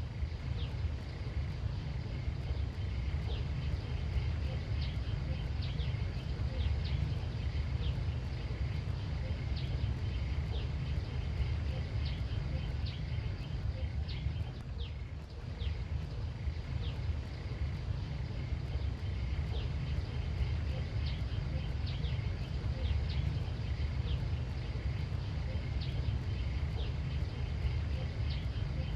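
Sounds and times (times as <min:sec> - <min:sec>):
faint high hum: 0:00.0 - 0:28.9
wind rumble on microphone: 0:00.0 - 0:28.9.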